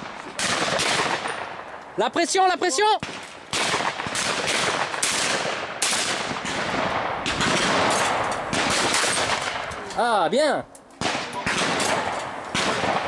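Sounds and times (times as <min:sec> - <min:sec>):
shotguns firing with echo: 0:00.0 - 0:09.9, 0:11.0 - 0:13.0.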